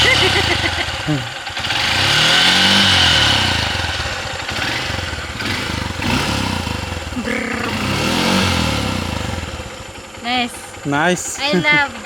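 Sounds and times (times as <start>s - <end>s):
motorcycle engine and exhaust: 0.0s - 12.0s.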